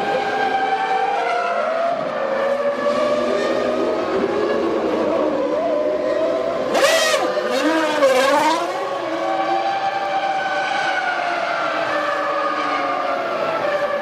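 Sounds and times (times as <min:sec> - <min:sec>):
racing cars at high revs: 0:00.0 - 0:14.0.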